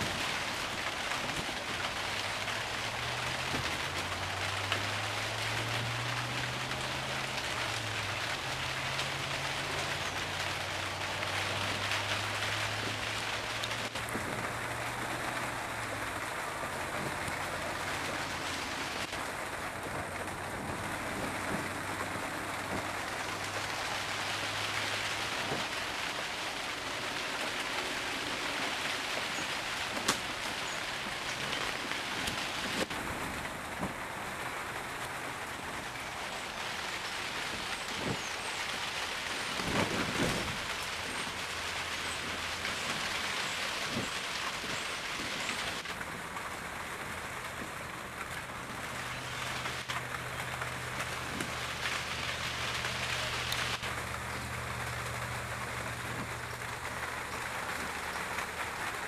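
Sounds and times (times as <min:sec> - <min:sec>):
rain pattering on plastic roof: 0:00.0 - 0:59.0.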